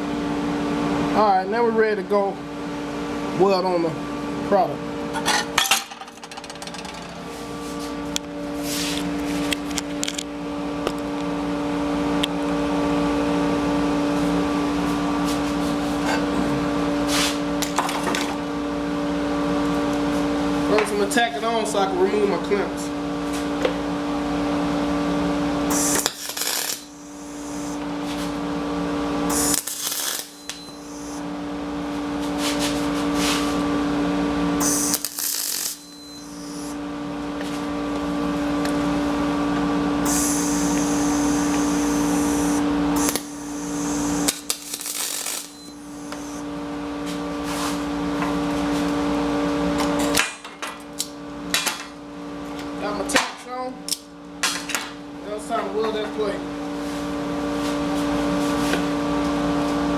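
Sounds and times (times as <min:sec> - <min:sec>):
welding arc humming and hissing: 0:05.0 - 0:53.2, 0:54.9 - 0:59.9.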